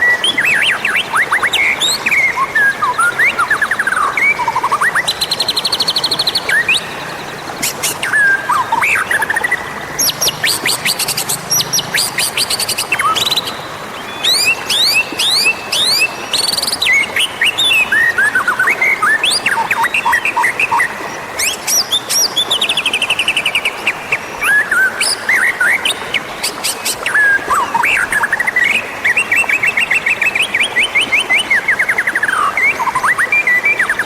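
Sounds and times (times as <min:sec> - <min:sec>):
songbird singing whistles and trills: 0:00.0 - 0:34.0.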